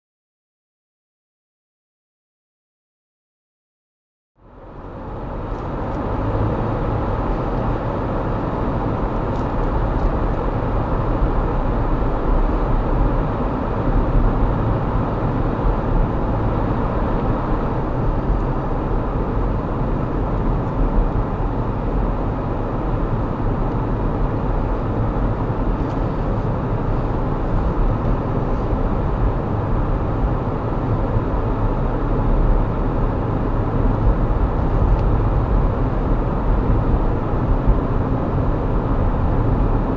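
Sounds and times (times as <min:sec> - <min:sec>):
car road and engine noise: 0:04.4 - 0:39.9.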